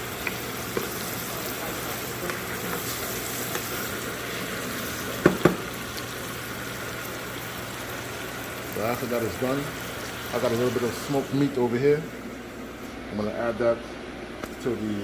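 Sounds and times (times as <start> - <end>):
seasonings sizzling in hot oil: 0.0 - 12.6.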